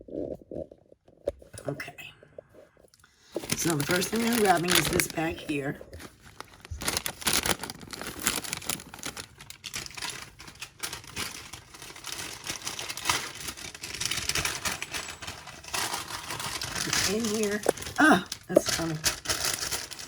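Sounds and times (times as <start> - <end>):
packaging rustling and crinkling: 3.2 - 20.0.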